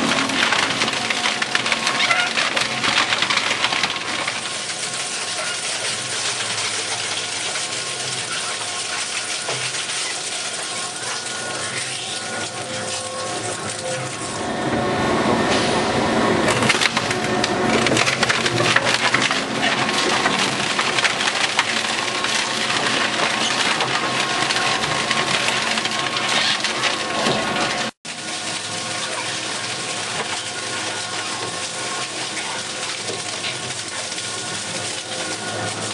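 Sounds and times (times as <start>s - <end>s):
shredder tearing wood: 0.0s - 14.5s, 16.4s - 35.9s.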